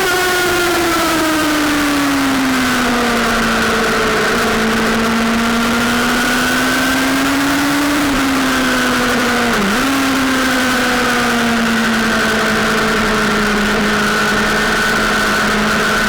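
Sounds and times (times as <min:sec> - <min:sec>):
motorcycle engine running hard: 0:00.0 - 0:16.0.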